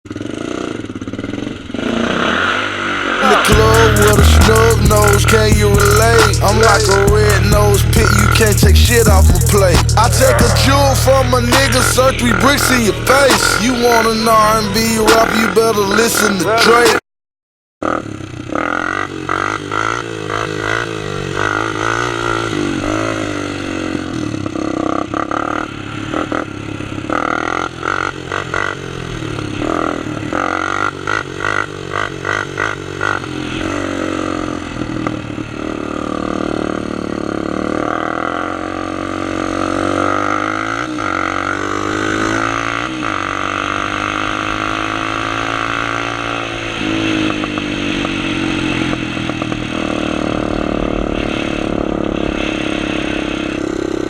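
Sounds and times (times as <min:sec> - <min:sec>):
quad bike engines revving: 0:00.1 - 0:17.0, 0:17.8 - 0:54.0.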